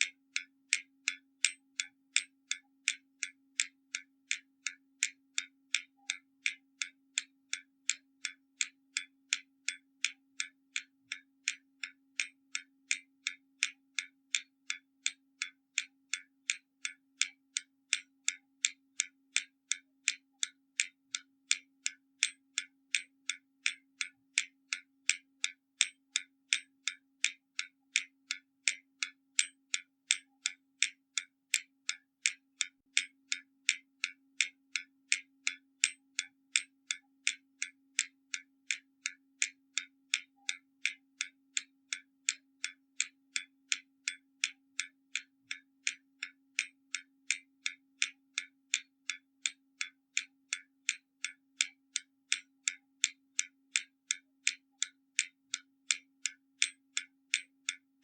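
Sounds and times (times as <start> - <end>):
mechanical clock ticking: 0.0 - 57.8.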